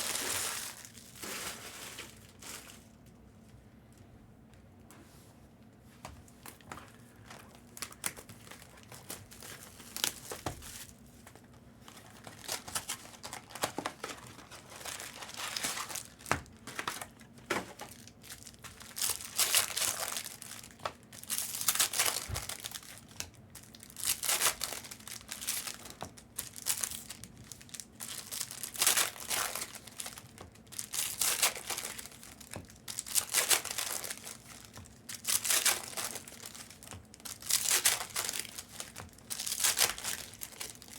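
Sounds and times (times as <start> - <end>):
plastic wrappers crinkling and tearing: 0.0 - 3.1, 6.3 - 40.9.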